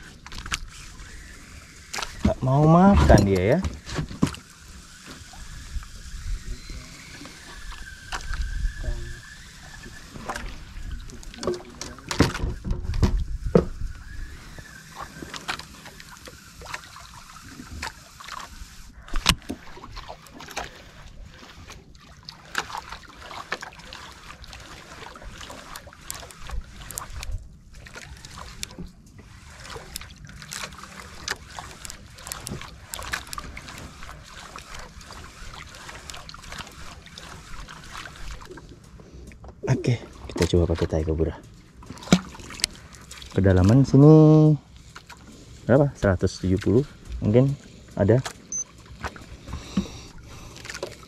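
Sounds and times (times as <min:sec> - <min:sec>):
water slapping against boat hull: 0:01.9 - 0:05.7, 0:07.2 - 0:51.0.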